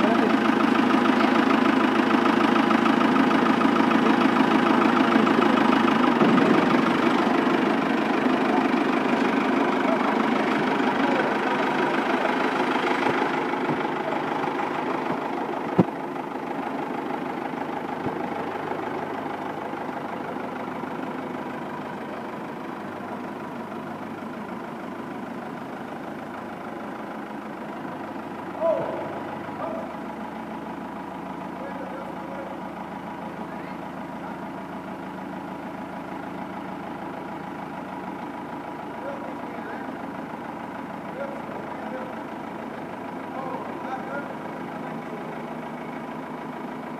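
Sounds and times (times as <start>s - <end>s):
tractor diesel engine idling: 0.0s - 46.9s.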